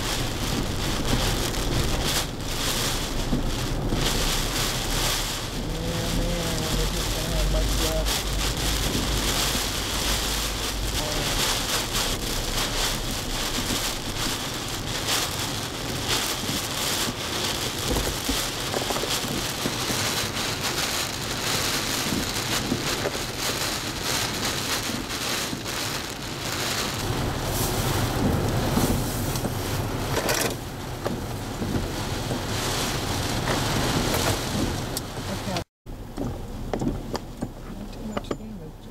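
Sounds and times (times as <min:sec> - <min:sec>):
hurricane wind rushing: 0:00.0 - 0:35.6
heavy rain spattering: 0:00.0 - 0:37.4.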